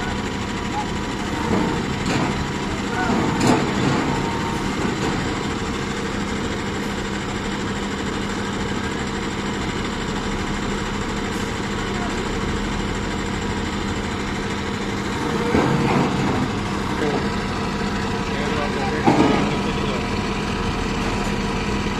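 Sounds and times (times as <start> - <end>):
diesel engine running steadily: 0.0 - 21.9.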